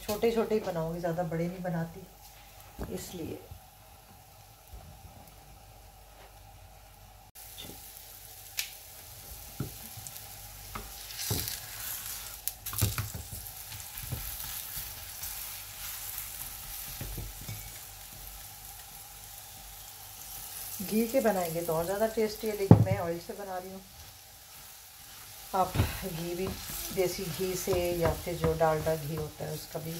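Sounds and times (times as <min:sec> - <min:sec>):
flatbread sizzling on a griddle: 0:03.6 - 0:29.9.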